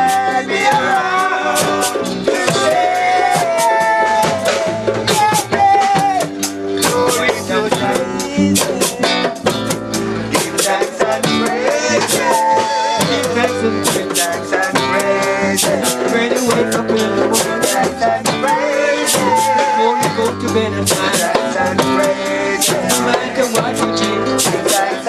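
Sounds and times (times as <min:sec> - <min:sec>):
man singing into microphone: 0:00.0 - 0:09.4, 0:10.2 - 0:25.0
strummed accompaniment: 0:00.0 - 0:25.0.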